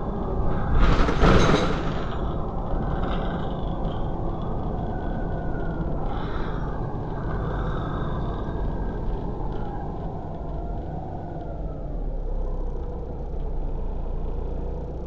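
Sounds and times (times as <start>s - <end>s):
bus diesel engine rumble: 0.0s - 15.0s.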